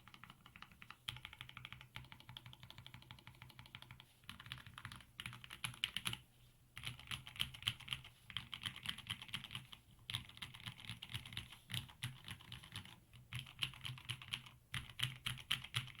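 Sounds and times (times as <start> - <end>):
typing on mechanical keyboard: 0.0 - 6.2, 6.8 - 16.0.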